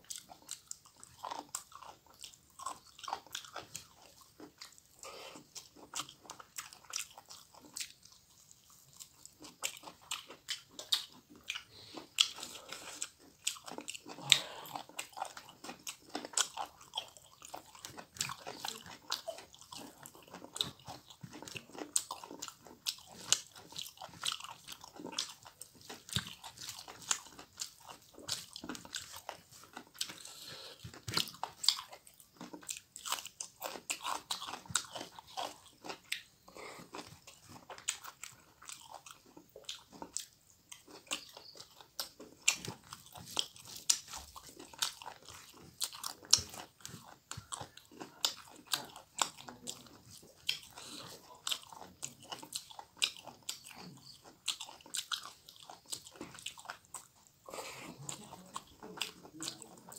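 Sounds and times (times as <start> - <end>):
food chewing crunches: 0.0 - 59.9.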